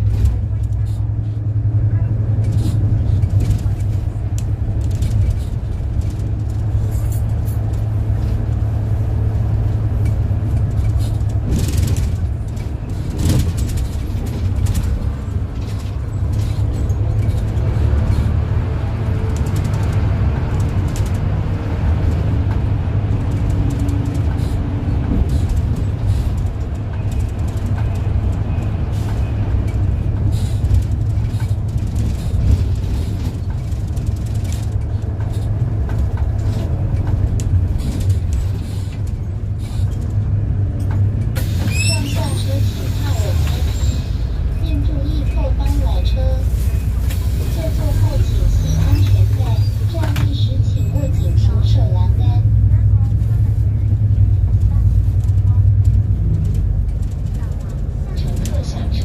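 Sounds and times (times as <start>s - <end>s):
bus body rattling and knocking: 0.0s - 59.0s
bus engine droning: 0.0s - 59.0s.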